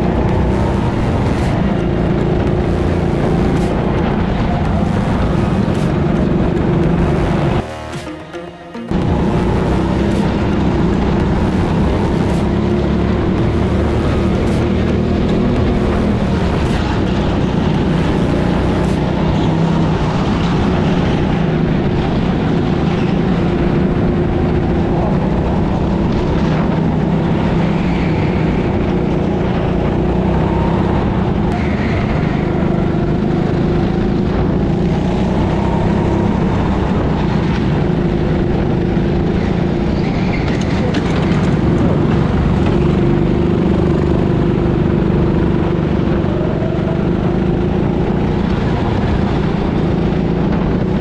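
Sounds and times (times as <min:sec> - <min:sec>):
go-kart engine running hard: 0:00.0 - 0:51.0
other karts running: 0:00.0 - 0:51.0.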